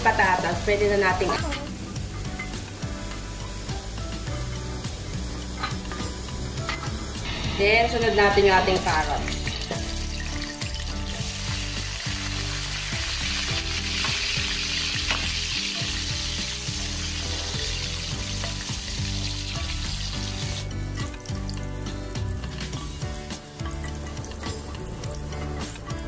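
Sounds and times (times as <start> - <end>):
carrots sizzling in hot oil: 0.0 - 26.0.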